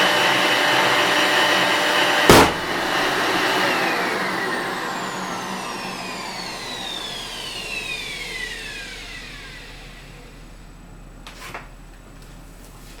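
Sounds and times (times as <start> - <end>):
air pump motor spinning down: 0.0 - 11.1.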